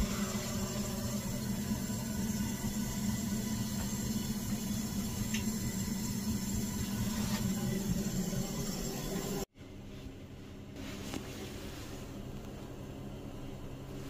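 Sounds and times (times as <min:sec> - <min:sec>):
gas boiler humming and hissing: 0:00.0 - 0:14.0.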